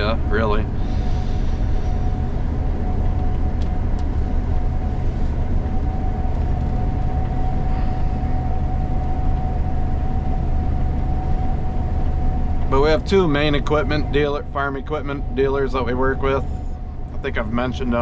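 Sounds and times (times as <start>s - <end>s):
combine harvester engine drone: 0.0s - 18.0s
high whine: 0.0s - 18.0s.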